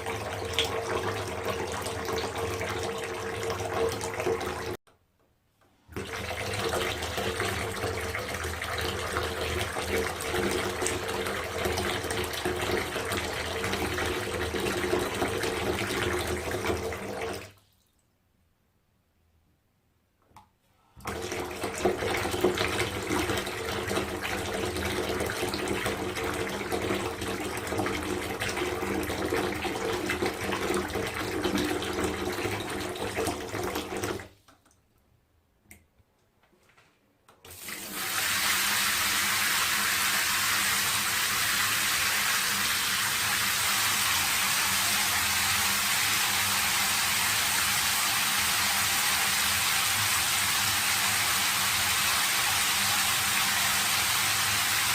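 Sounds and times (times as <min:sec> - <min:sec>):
tap water running into bathtub: 0:00.0 - 0:04.8, 0:05.9 - 0:18.0, 0:21.0 - 0:35.0, 0:37.3 - 0:54.9.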